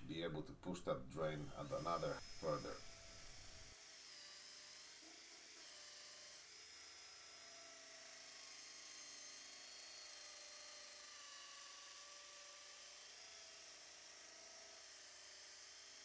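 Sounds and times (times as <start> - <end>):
cordless drill whine: 1.2 - 16.0.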